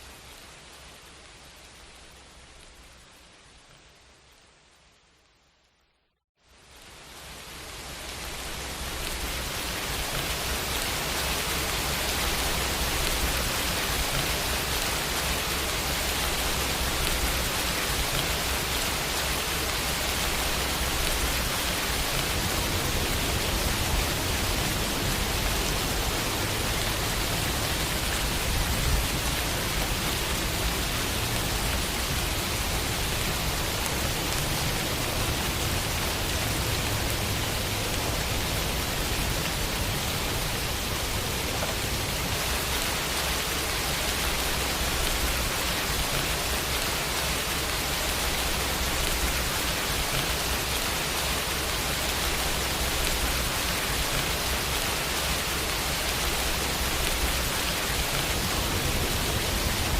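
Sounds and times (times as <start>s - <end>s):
rain on a window: 0.0s - 59.9s.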